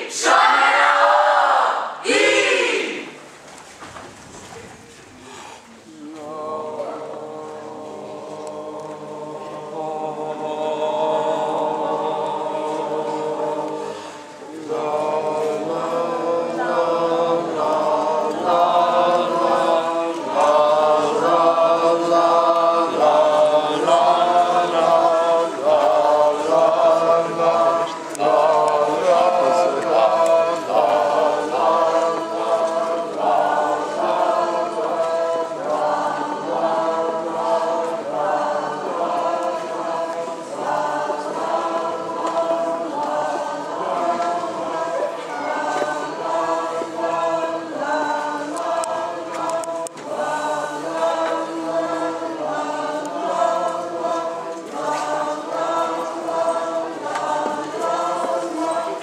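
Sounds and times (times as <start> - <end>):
group of voices singing: 0.0 - 3.2, 5.8 - 59.0.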